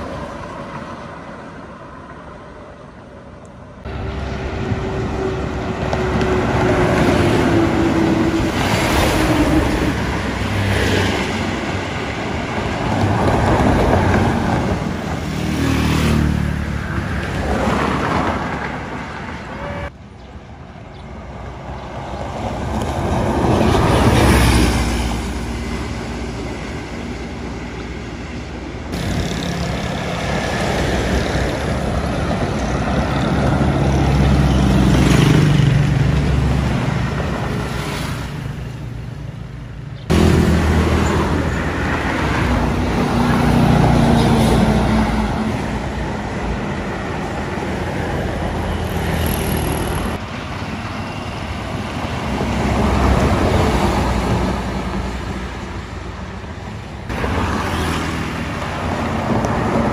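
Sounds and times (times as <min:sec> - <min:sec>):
buses passing close by: 0:00.0 - 0:59.9
highway traffic: 0:00.0 - 0:59.9.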